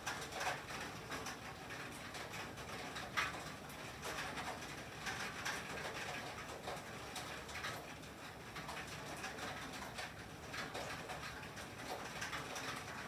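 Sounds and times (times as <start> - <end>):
rain and sleet on a tin roof: 0.0 - 13.0.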